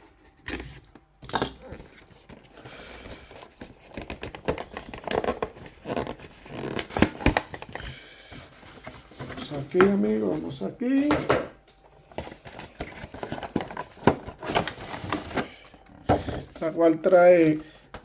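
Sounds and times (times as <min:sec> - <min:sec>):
cardboard and plastic rustling: 0:00.0 - 0:18.0.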